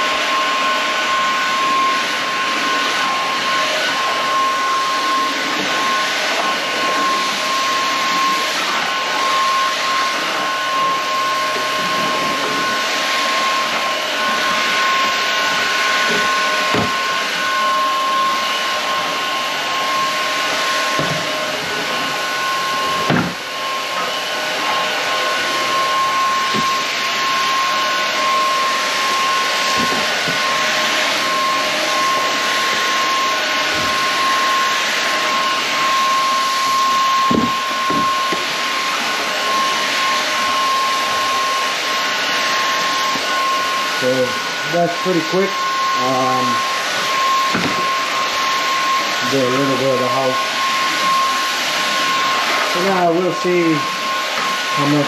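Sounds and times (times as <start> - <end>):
stick vacuum running: 0.0 - 55.0.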